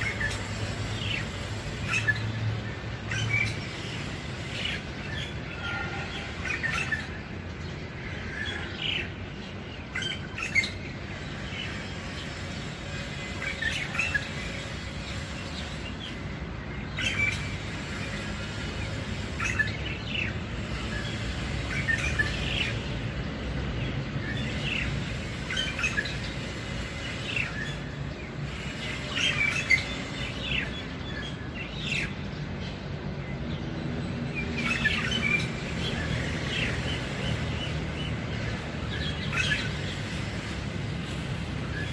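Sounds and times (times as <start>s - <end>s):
bird chirping and chattering: 0.0s - 23.0s, 23.9s - 40.6s.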